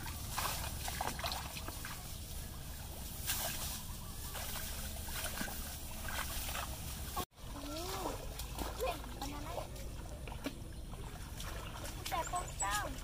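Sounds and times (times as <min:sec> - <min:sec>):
branches and grass rustling: 0:00.0 - 0:13.0
low steady rumble: 0:00.0 - 0:13.0.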